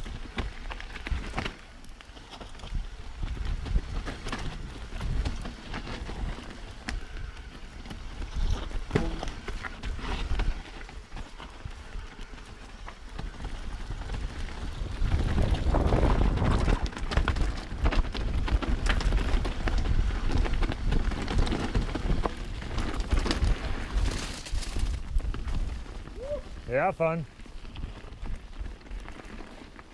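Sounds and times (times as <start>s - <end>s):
bike rattling and knocking: 0.0s - 26.7s, 27.3s - 29.9s
tyres rumbling over dirt: 0.0s - 29.9s.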